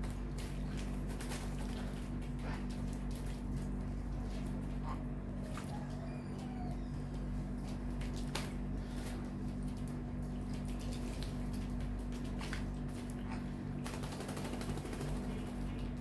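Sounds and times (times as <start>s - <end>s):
birds flapping and splashing water: 0.0s - 5.9s, 7.5s - 16.0s
steady low hum: 0.0s - 16.0s.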